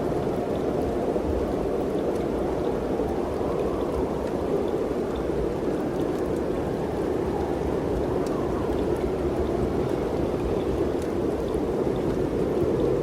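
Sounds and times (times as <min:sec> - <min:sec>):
wind blowing steadily: 0:00.0 - 0:13.0.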